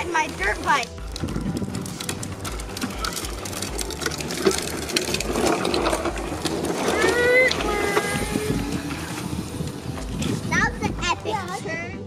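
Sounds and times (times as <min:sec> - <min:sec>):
electric mini dirt bike whirring: 0:00.0 - 0:11.8.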